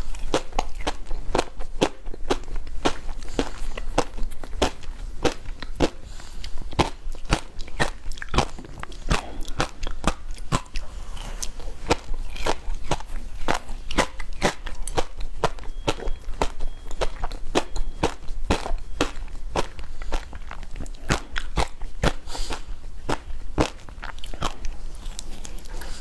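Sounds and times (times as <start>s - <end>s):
hard candy crunching: 0.0s - 26.0s.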